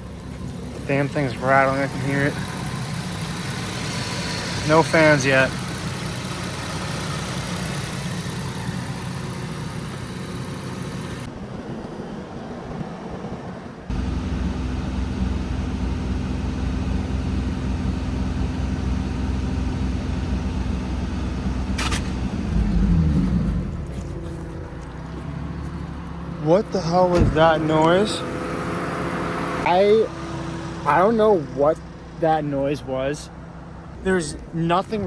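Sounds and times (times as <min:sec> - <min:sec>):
car engine idling: 0:00.0 - 0:11.7, 0:13.8 - 0:35.0.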